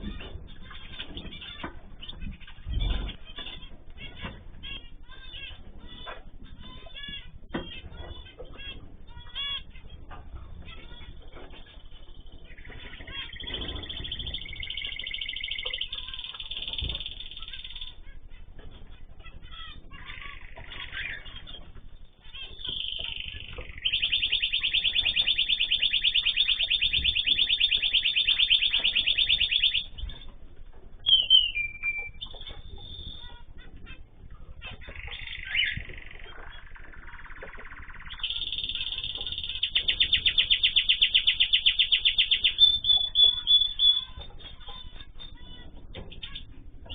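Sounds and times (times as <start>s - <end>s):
cage birds singing: 0.0s - 46.9s.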